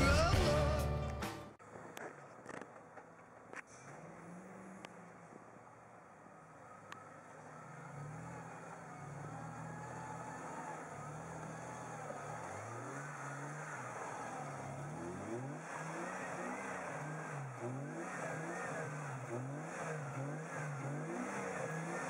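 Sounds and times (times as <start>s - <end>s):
off-road vehicle engine revving: 1.7s - 22.0s.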